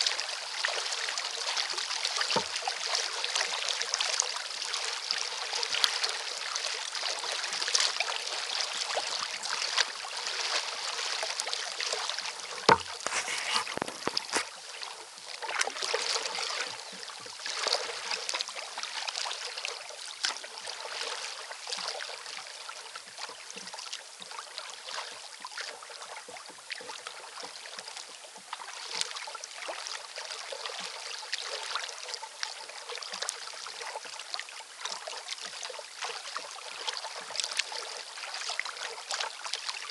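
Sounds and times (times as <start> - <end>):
paddle strokes splashing: 0.0 - 39.9
water lapping at hull: 0.0 - 39.9.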